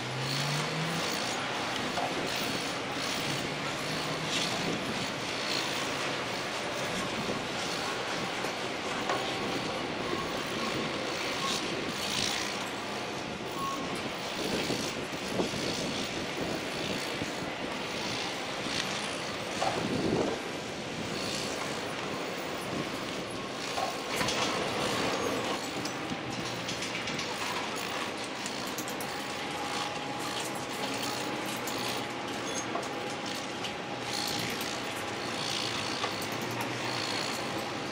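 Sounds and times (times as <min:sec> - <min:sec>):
construction machinery running: 0:00.0 - 0:37.9.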